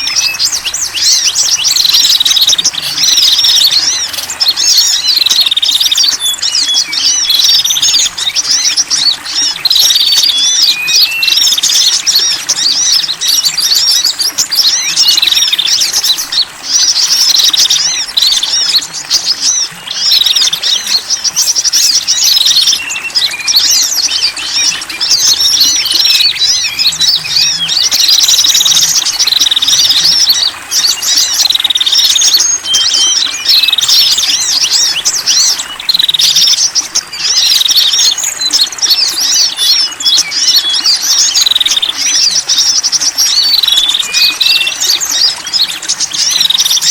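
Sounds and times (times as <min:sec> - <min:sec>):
small birds chirping and trilling: 0:00.0 - 0:46.9.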